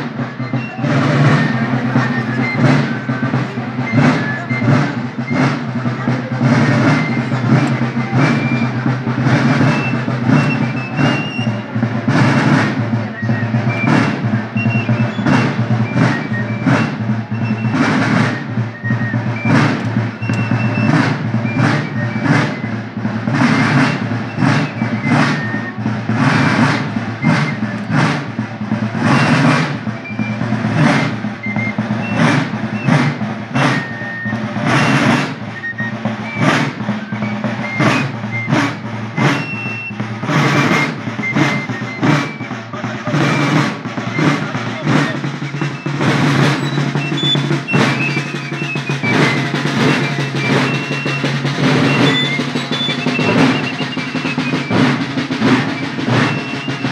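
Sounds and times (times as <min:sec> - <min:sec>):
low drum: 0:00.0 - 0:56.9
marching side drums: 0:00.0 - 0:56.9
short high whistle notes: 0:00.4 - 0:05.6, 0:09.5 - 0:11.7, 0:13.1 - 0:22.8, 0:23.4 - 0:28.1, 0:29.0 - 0:56.9.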